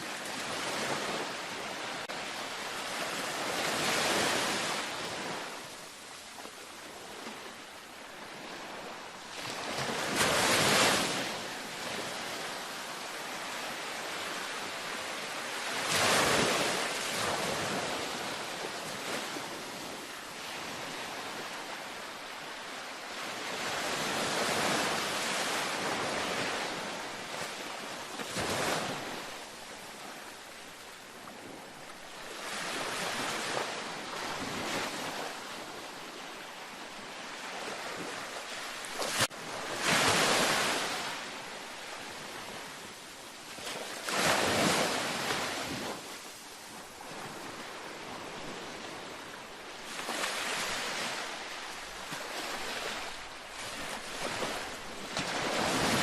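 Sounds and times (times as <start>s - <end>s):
ocean waves washing onto beach: 0.0s - 56.0s.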